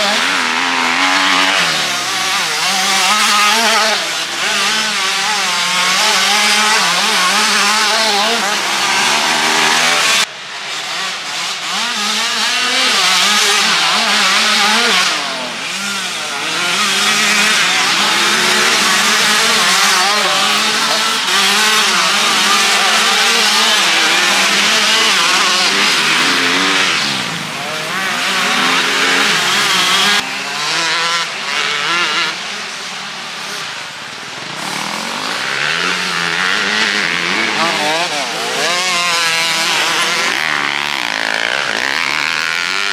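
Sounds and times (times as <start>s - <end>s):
motocross bike engines revving: 0.0s - 42.9s.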